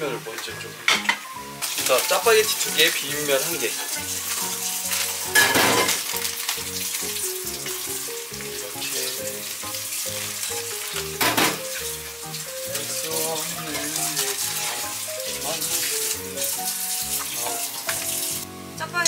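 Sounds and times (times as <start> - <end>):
light background music: 0.0 - 19.0
sizzling on the stove: 0.0 - 19.0.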